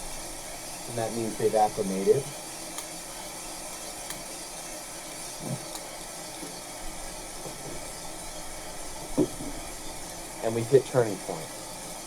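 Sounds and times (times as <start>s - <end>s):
coffee roaster hissing: 0.0s - 12.0s.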